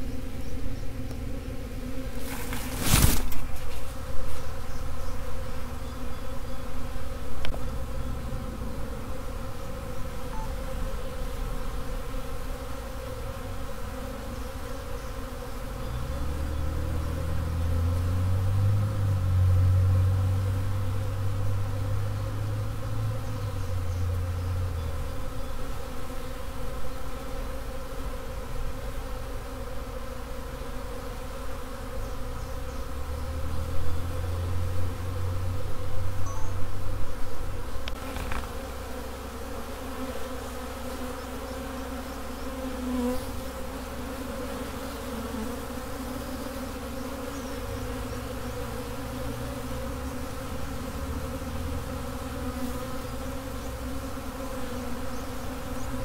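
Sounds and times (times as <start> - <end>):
bee swarm buzzing: 0.0 - 56.0.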